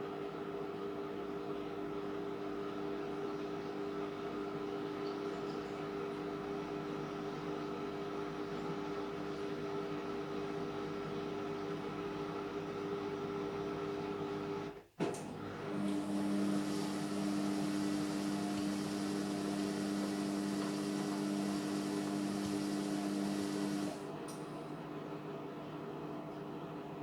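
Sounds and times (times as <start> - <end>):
washing machine motor humming: 2.6 - 25.7.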